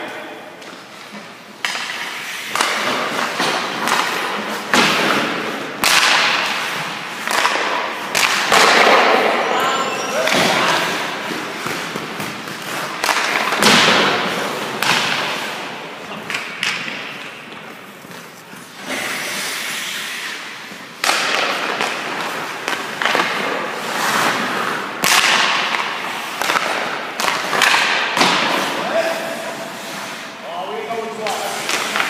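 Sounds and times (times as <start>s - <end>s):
hockey shots cracking: 0.6s - 32.0s
skate blades scraping ice: 0.7s - 32.0s.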